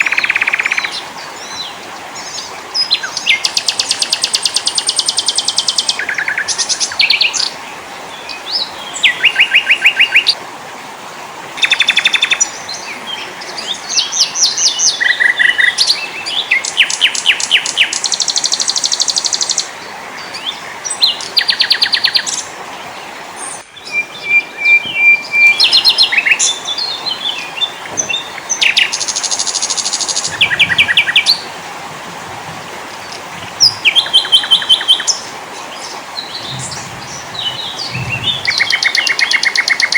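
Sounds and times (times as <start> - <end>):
songbirds singing: 0.0 - 10.4, 11.6 - 39.9
steady background hiss: 0.0 - 39.9.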